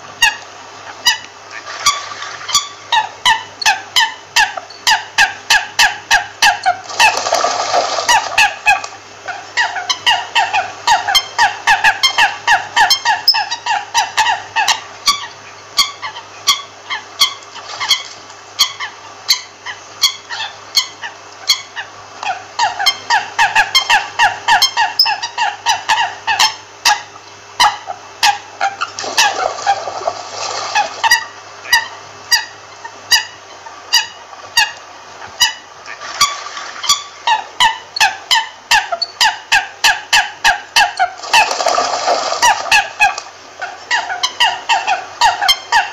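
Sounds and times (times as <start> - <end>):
coots calling: 0.0 - 45.9.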